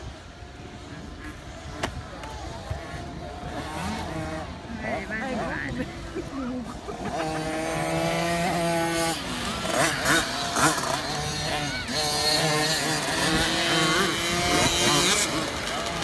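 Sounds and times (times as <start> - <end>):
motocross bikes racing past: 0.0 - 16.0.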